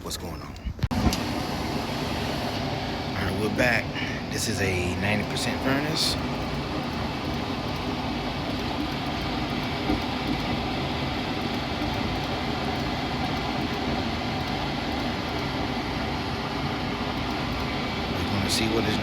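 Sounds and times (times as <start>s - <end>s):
furnace equipment humming: 0.0s - 19.0s.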